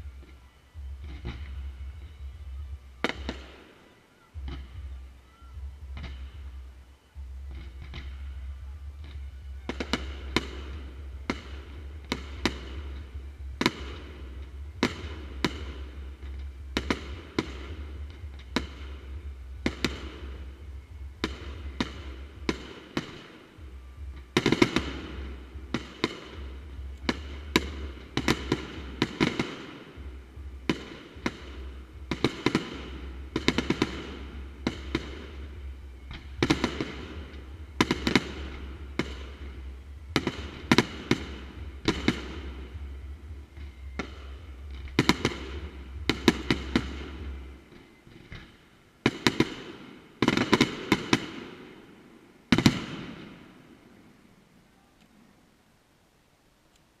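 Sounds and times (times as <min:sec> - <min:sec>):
low steady rumble: 0:00.0 - 0:03.5, 0:04.3 - 0:49.0
fireworks bangs and crackle: 0:03.0 - 0:03.8, 0:07.4 - 0:51.9, 0:52.5 - 0:53.6.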